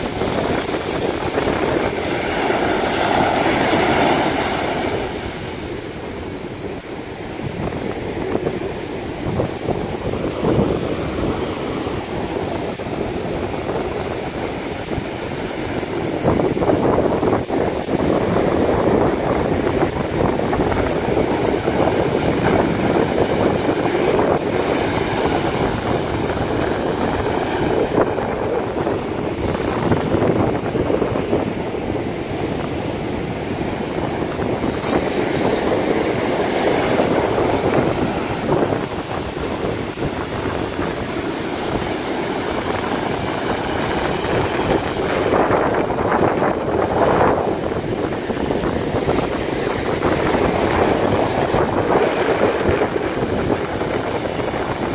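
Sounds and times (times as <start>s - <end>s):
sea surf washing up beach: 0.0s - 54.9s.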